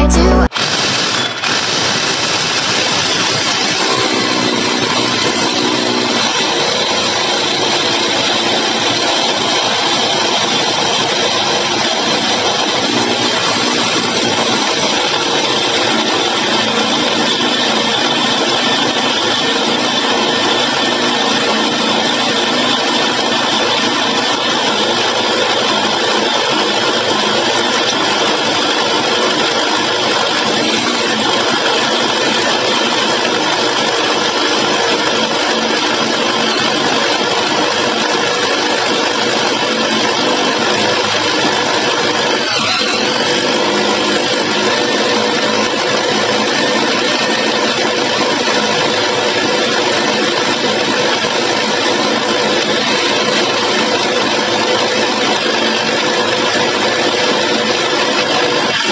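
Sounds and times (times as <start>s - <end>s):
rotary hammer drill cutting masonry: 0.6s - 58.9s.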